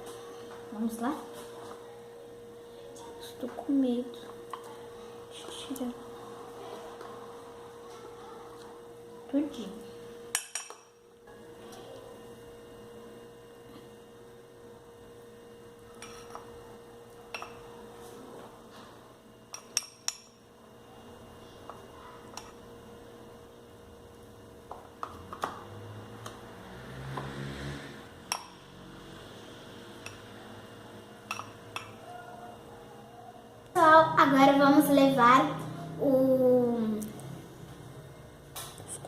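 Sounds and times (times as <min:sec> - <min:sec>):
steady faint hum: 0:00.0 - 0:39.0.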